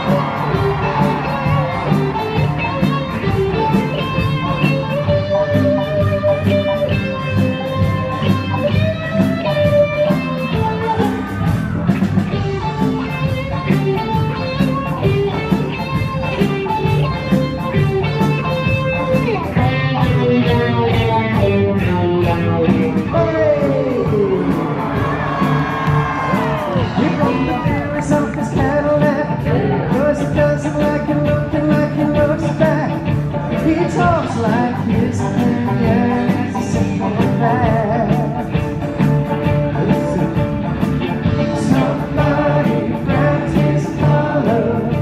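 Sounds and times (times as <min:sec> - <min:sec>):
electric guitar bending notes: 0:00.0 - 0:45.0
live band playing: 0:00.0 - 0:45.0.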